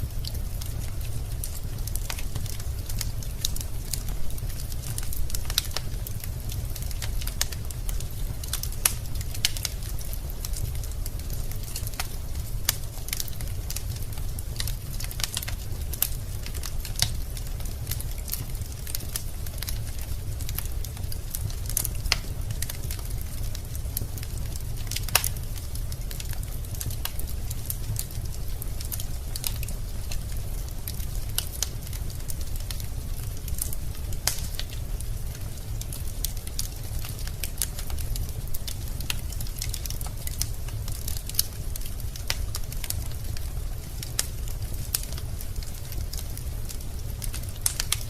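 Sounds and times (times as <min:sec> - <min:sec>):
logs crackling and popping: 0:00.0 - 0:48.0
low rumble of flames: 0:00.0 - 0:48.0.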